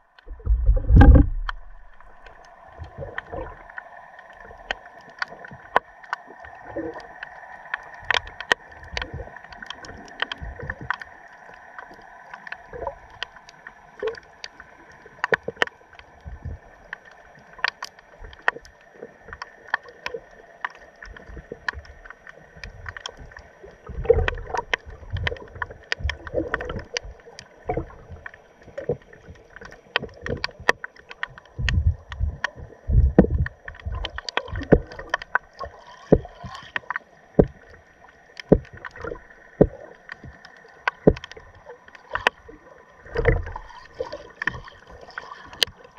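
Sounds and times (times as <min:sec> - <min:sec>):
faint steady hum: 0:00.0 - 0:45.9
low thumps of surging water: 0:00.0 - 0:45.9
underwater clicks and pops: 0:00.1 - 0:11.1, 0:15.2 - 0:45.9.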